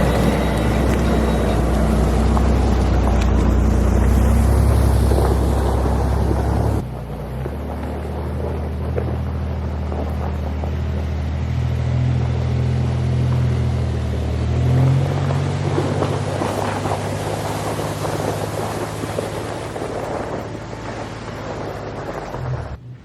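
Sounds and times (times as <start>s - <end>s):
car engine running at low revs: 0.0s - 23.0s.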